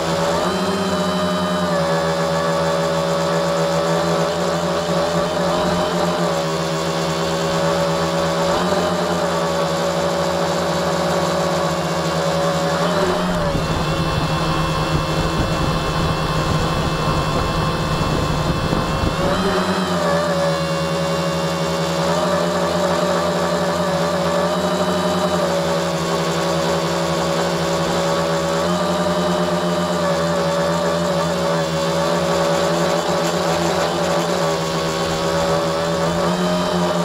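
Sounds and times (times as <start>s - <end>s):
drone motors humming: 0.0s - 37.0s.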